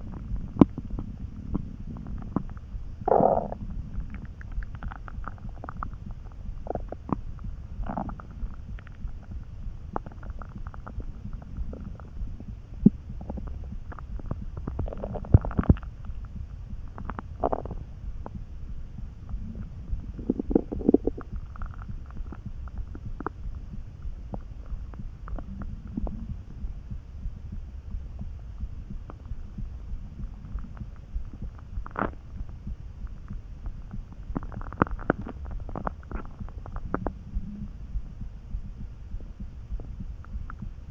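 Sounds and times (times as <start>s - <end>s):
stomach rumbling and gurgling: 0.0s - 40.9s.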